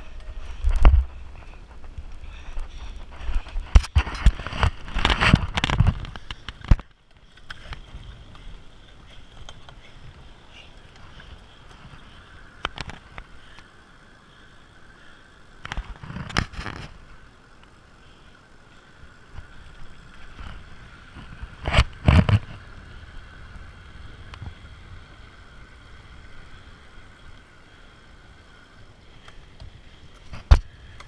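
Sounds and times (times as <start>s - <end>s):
bicycle rolling hum: 0.0s - 31.0s.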